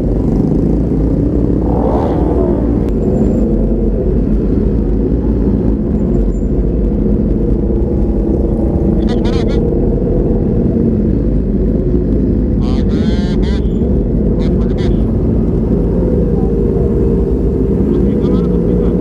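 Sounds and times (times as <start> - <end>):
motorcycle engine rumble: 0.0 - 19.0
wind on microphone: 0.0 - 19.0.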